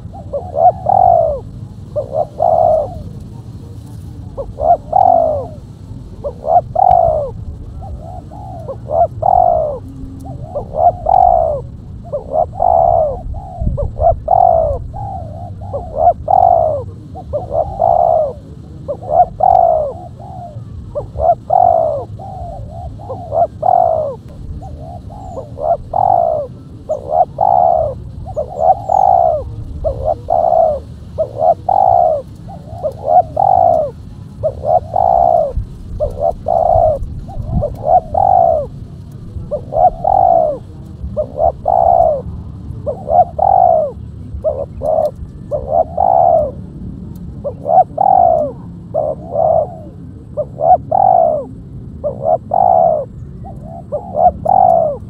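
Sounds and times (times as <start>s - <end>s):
dove cooing: 0.0s - 55.0s
faint low rumble: 0.0s - 55.0s.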